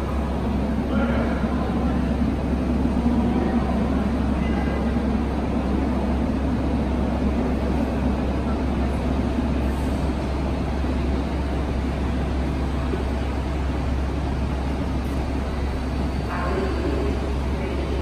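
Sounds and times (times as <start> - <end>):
metro train rumbling and humming: 0.0 - 18.0.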